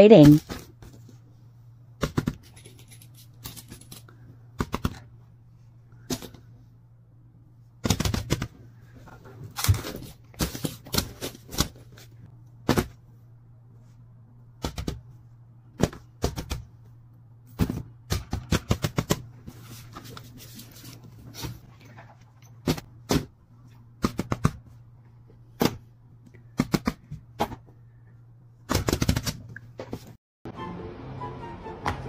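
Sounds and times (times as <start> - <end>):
low steady hum: 0.0 - 28.7.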